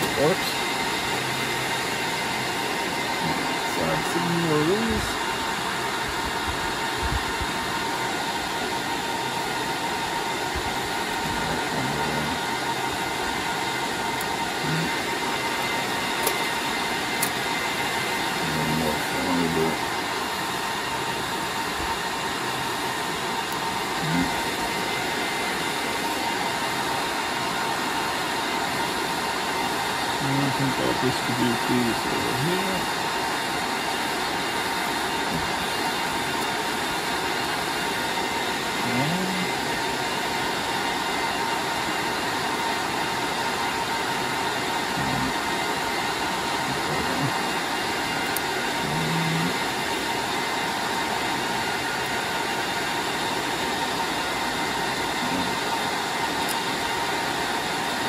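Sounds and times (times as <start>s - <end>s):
cooling fans whirring: 0.0s - 58.0s.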